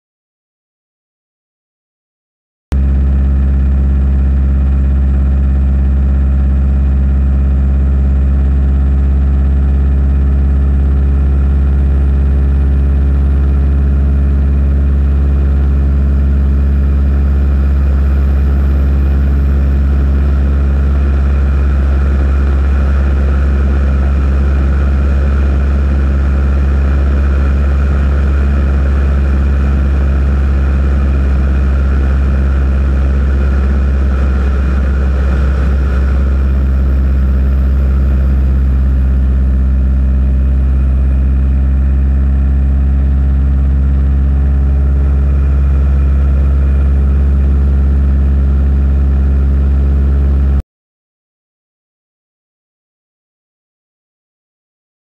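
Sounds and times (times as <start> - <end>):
engine running steadily: 2.7 - 50.6.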